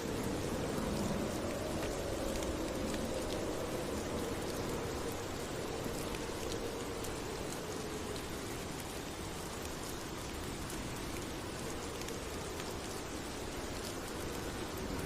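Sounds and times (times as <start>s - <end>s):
raindrop ticks: 0.0s - 15.0s
steady rain hiss: 0.0s - 15.0s.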